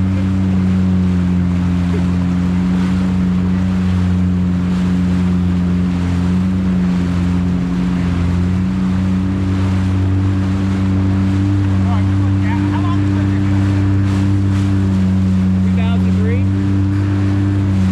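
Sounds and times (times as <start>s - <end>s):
jet ski engine running: 0.0s - 17.9s
water rushing along hull: 0.0s - 17.9s.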